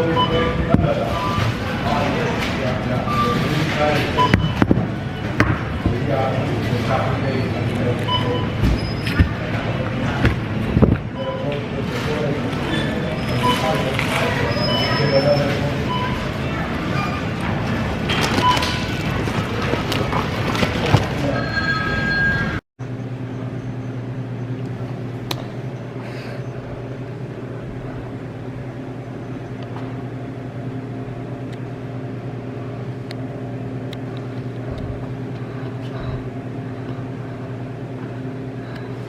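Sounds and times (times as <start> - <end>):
loud busy noise: 0.0 - 39.0.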